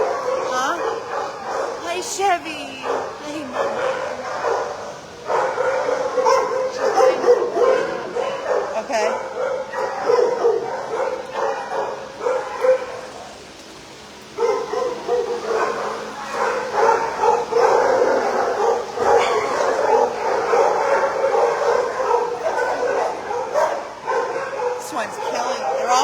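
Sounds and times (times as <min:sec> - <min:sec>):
dogs barking and yipping: 0:00.0 - 0:26.0.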